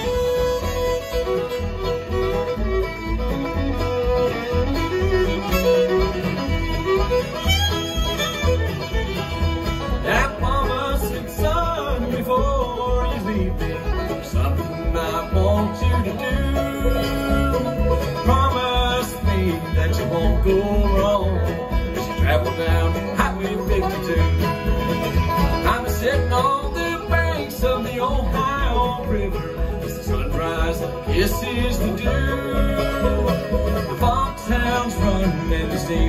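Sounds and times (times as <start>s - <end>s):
bluegrass band playing: 0.0s - 36.0s
upright bass notes: 0.0s - 36.0s.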